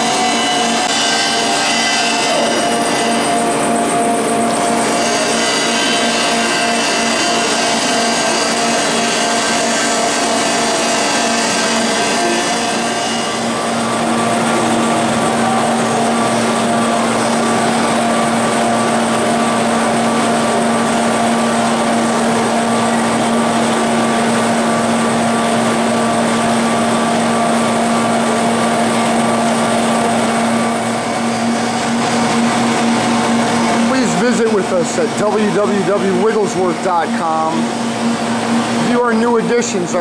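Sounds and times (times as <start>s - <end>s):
milling machine drone: 0.0s - 40.0s.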